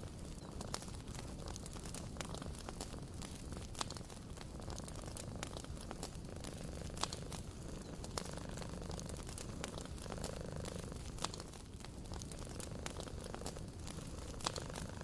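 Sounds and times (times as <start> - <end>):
low background noise: 0.0 - 15.0
wood fire crackling: 0.0 - 15.0.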